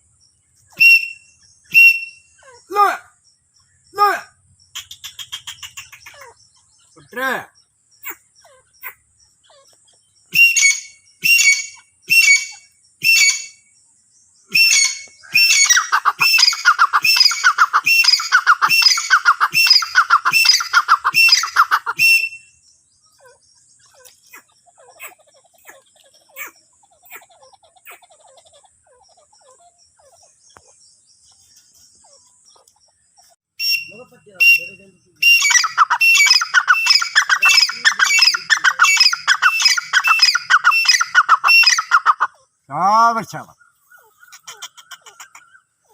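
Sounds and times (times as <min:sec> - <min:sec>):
francolin calling: 0:00.0 - 0:45.9.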